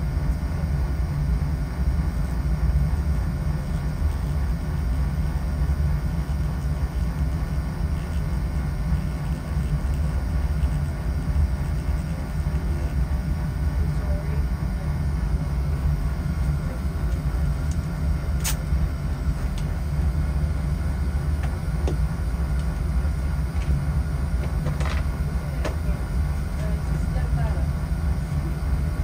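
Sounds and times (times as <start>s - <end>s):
oil burner rumbling: 0.0s - 29.0s.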